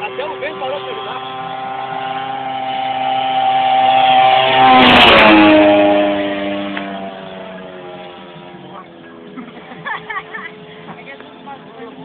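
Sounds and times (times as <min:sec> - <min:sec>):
model plane engine flyby: 0:00.0 - 0:12.0.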